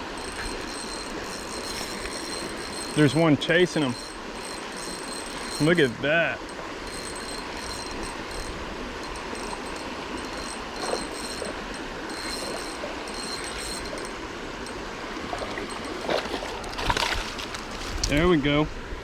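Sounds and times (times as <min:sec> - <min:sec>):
creek water flowing over rocks: 0:00.0 - 0:18.2.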